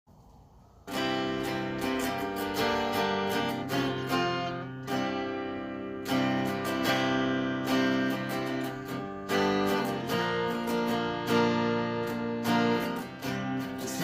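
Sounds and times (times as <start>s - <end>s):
acoustic guitar playing: 0.2s - 14.0s.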